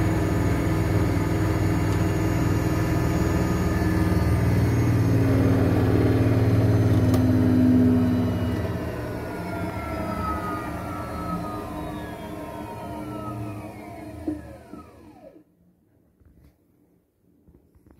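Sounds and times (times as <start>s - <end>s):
washing machine spin cycle hum: 0.0s - 15.5s.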